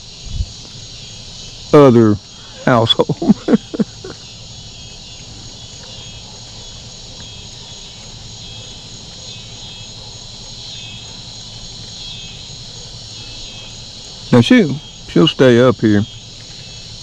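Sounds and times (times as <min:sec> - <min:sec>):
crickets and insects trilling: 0:00.0 - 0:17.0.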